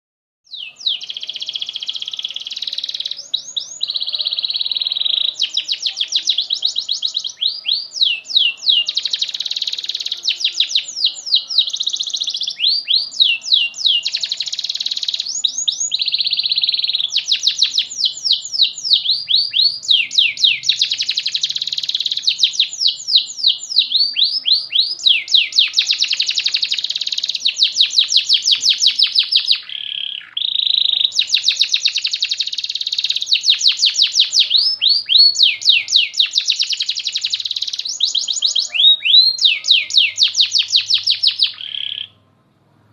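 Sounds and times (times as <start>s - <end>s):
canary singing trills: 0.5s - 42.2s.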